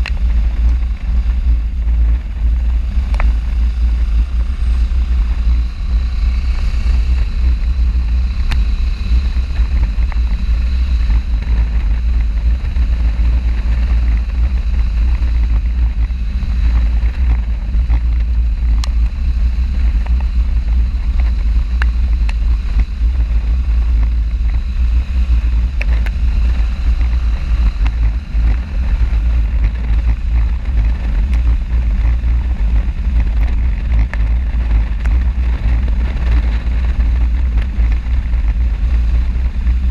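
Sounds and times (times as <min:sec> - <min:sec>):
motorcycle running: 0:00.0 - 0:39.9
wind buffeting microphone: 0:00.0 - 0:39.9.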